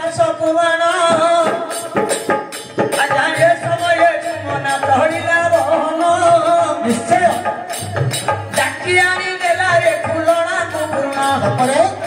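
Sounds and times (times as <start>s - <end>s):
repeating drum beat: 0.0s - 12.0s.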